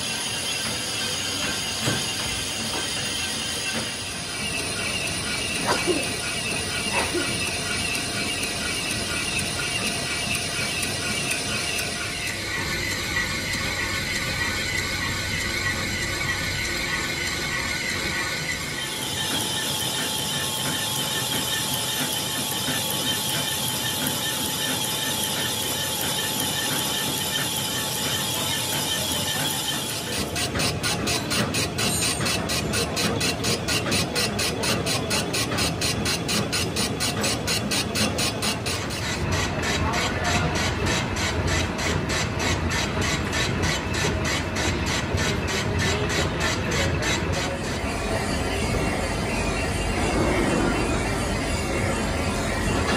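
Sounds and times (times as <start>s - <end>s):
fast even knocking of lathe tool: 0.0s - 47.9s
metal lathe cutting: 0.0s - 52.9s.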